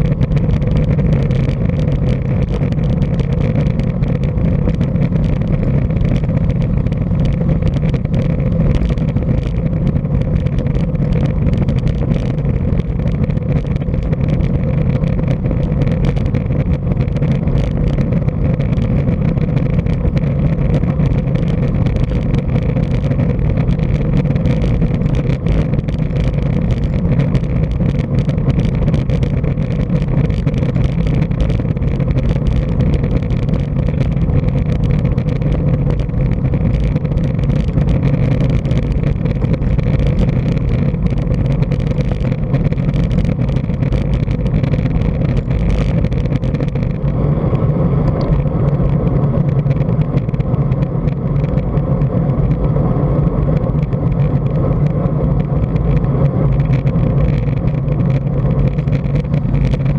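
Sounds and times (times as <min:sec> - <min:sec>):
tyre and road rumble: 0:00.0 - 0:59.9
wind rushing over microphone: 0:00.0 - 0:59.9.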